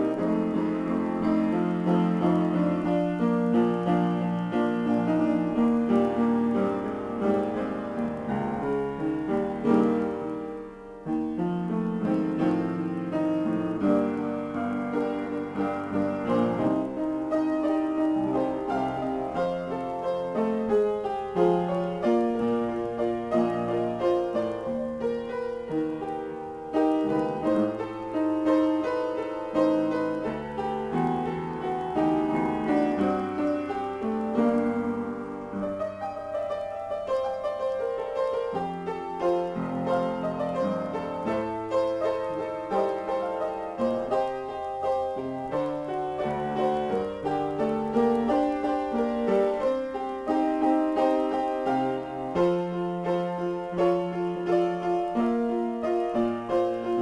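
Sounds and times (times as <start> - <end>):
solo piano improvisation: 0.0 - 57.0.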